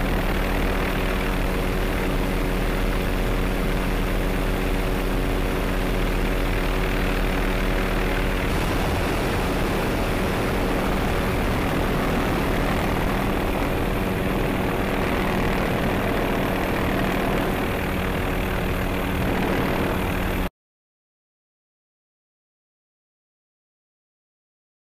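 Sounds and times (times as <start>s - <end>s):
helicopter flying low: 0.0s - 20.5s.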